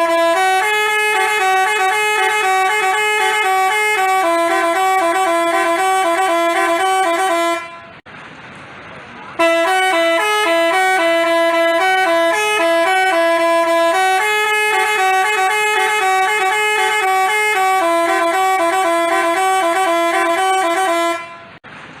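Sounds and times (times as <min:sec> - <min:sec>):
musical bus horn melody: 0:00.0 - 0:08.0, 0:09.4 - 0:21.6.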